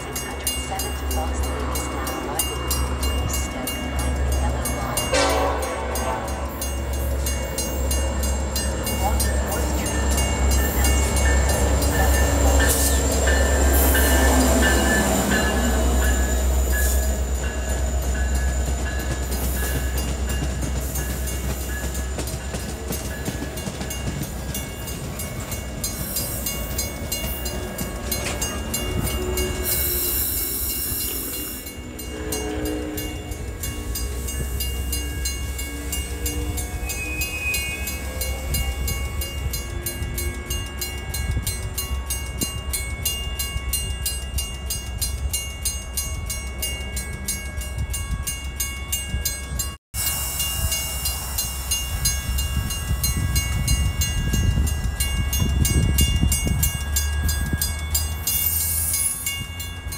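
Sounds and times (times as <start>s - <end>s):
diesel locomotive passing: 0.0s - 59.9s
train cars rumbling on rails: 0.0s - 59.9s.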